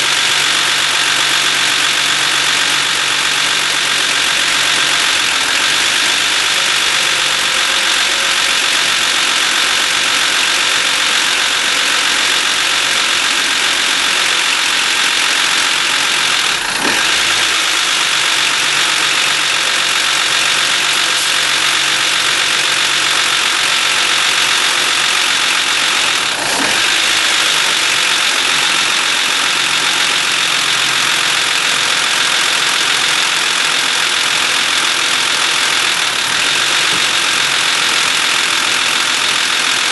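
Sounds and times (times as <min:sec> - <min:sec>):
car engine running: 0:00.0 - 0:39.9
high-pitched mechanical noise: 0:00.0 - 0:39.9.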